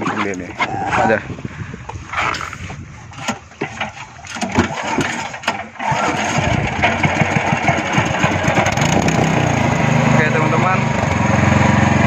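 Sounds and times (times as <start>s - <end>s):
speedboat engine starting: 2.1s - 12.0s.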